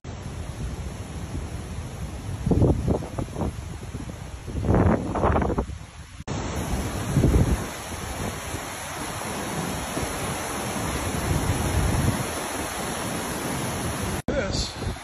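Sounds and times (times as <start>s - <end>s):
floodwater rushing: 0.1s - 15.0s
wind buffeting microphone: 0.5s - 13.0s.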